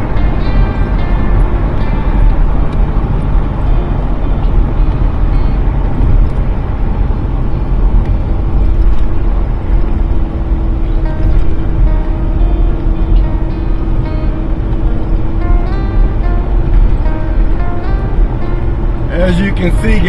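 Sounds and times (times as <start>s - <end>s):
van interior road rumble: 0.0s - 20.0s.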